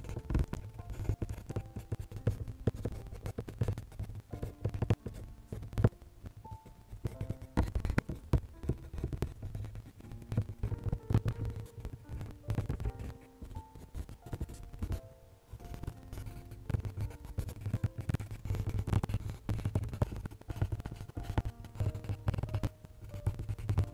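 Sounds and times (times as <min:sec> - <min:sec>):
pencil scratching on paper: 0:00.0 - 0:05.9, 0:06.5 - 0:15.0, 0:15.8 - 0:23.9
soft background music: 0:00.0 - 0:23.9.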